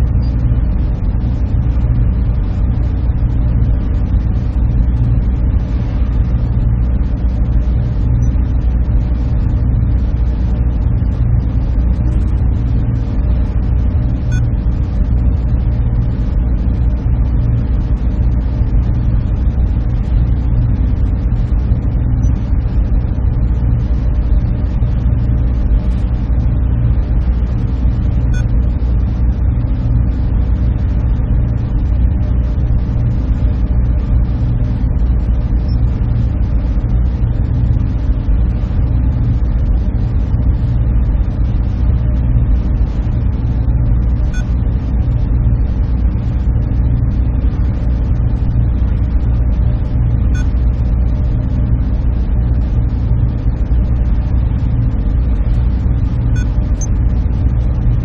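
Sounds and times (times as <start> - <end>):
server machines humming: 0.0 - 42.0, 42.6 - 46.5, 47.4 - 51.1, 54.1 - 57.6.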